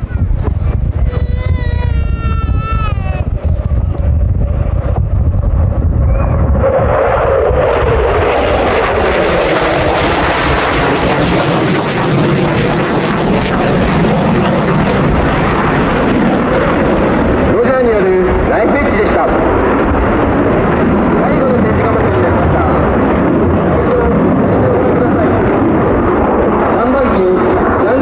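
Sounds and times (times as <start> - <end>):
jet flying past: 0.0 - 28.0.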